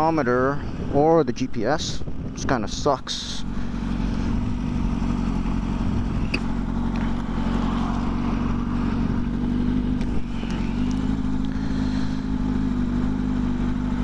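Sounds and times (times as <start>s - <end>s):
motorcycle engine idling: 1.8s - 14.0s.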